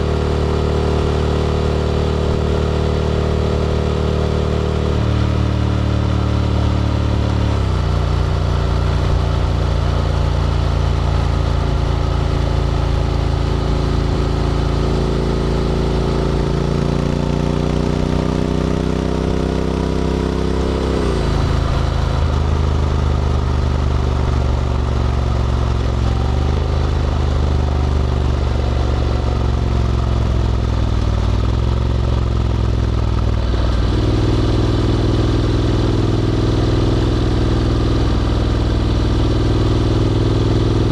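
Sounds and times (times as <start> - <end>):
motorcycle engine while riding: 0.0 - 40.9.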